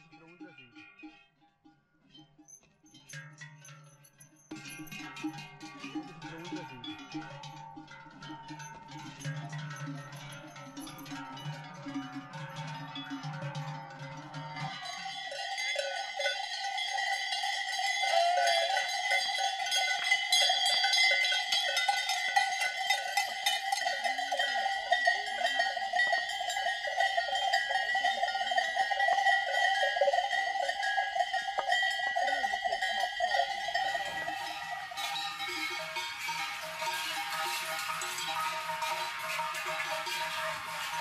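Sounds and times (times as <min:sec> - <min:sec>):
livestock bells clanging: 0:00.0 - 0:41.0.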